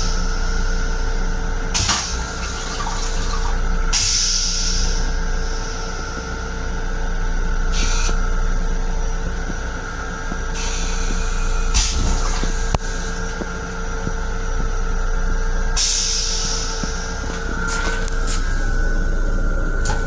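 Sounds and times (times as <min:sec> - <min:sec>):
electric railcar rumble: 0:00.0 - 0:20.0
steady hum tones: 0:00.0 - 0:20.0.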